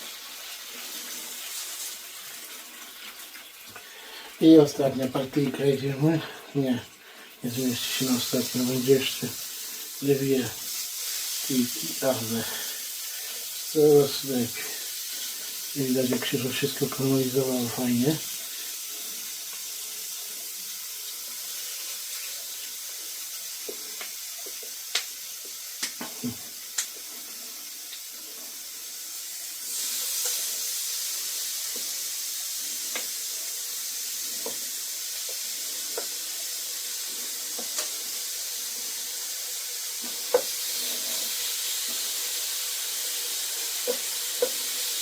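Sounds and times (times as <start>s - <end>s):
oil crackles and pops: 0.0s - 5.9s, 7.5s - 45.0s
chicken sizzling in hot oil: 0.0s - 45.0s.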